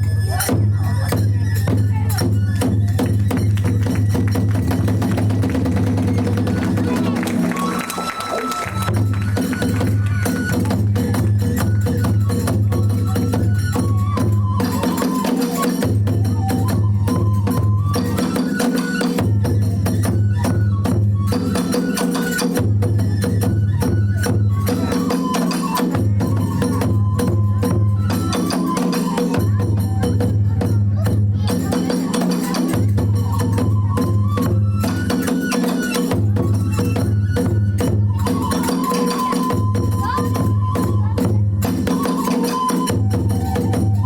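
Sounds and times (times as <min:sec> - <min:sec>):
small hand cymbals: 0:00.0 - 0:44.0
drums beating: 0:00.4 - 0:44.0.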